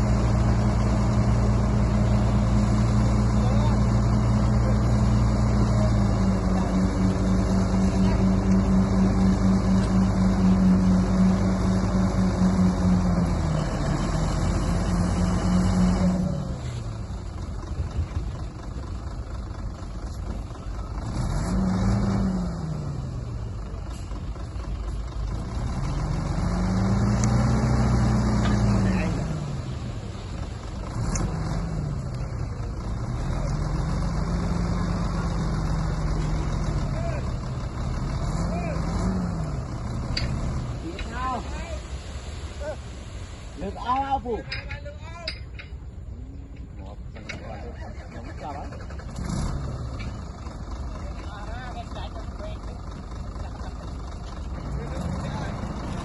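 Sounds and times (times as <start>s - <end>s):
heavy machine engine under load: 0.0s - 56.0s.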